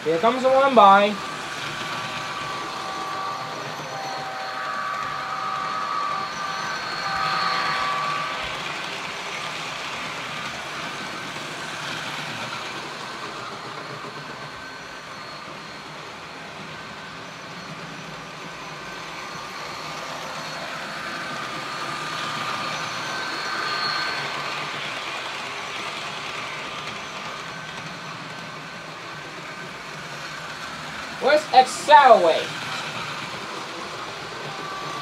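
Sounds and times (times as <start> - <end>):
model train whine: 0.0 - 35.0
model trains rolling rattle: 0.0 - 35.0.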